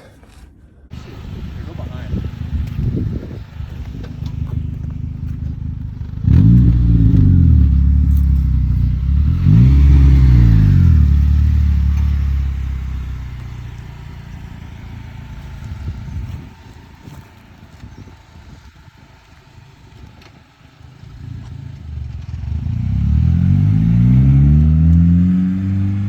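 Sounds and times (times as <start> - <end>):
car engine idling and revving: 0.9 - 26.0.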